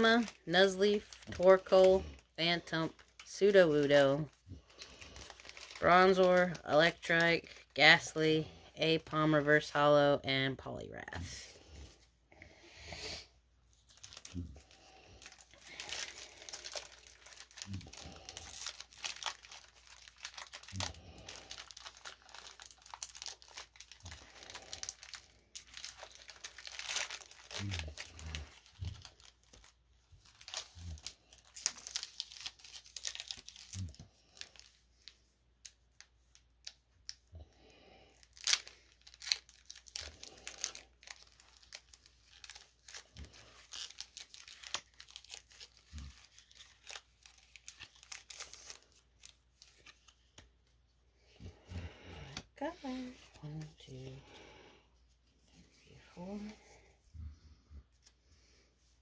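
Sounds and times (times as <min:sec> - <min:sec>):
foil wrapper crinkling and tearing: 0:00.0 - 0:09.8, 0:13.7 - 0:51.9
trading cards rustling: 0:00.0 - 0:10.0, 0:13.7 - 0:37.2, 0:38.1 - 0:54.6.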